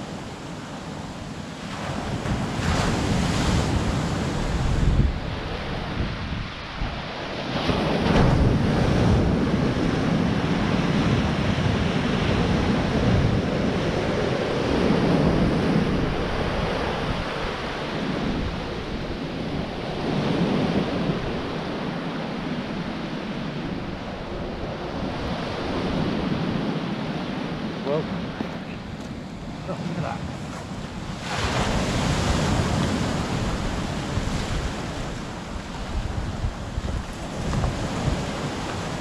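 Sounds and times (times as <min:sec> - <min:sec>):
sea waves breaking on stony shore: 0:00.0 - 0:39.0
wind buffeting microphone: 0:00.0 - 0:39.0.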